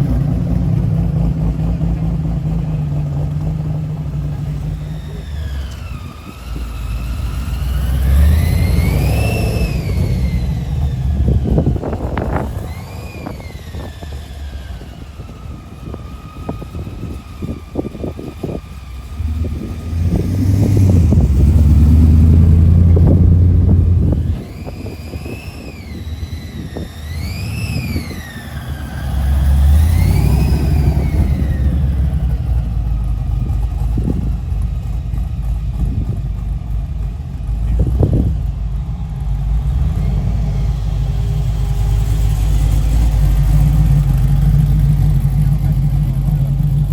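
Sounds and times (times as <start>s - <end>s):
car engine revving: 0.0s - 46.9s
rising and falling whine: 3.9s - 34.4s, 37.7s - 46.9s.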